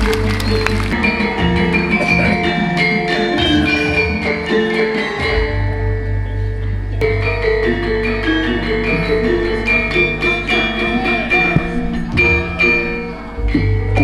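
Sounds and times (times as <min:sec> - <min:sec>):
gamelan orchestra playing: 0:00.0 - 0:14.0.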